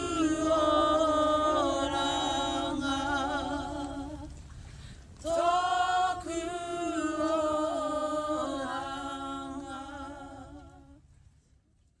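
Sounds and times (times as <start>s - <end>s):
group singing unaccompanied: 0.0s - 4.3s, 5.2s - 11.0s.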